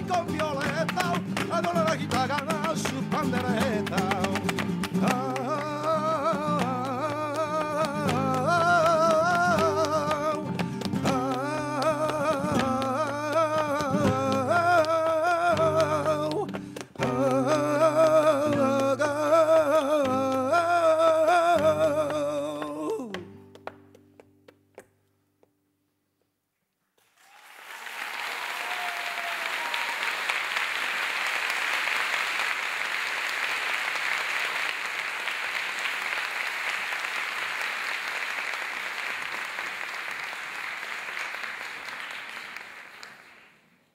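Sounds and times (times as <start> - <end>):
audience applauding: 0.0 - 23.8, 27.0 - 43.9.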